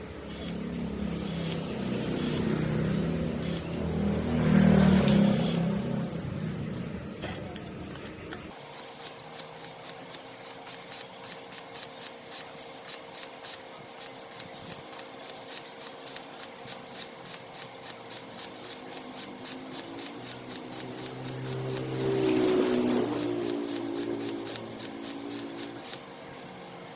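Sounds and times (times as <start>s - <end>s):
rhythmic hand scraping strokes: 0.0s - 6.2s, 8.5s - 26.9s.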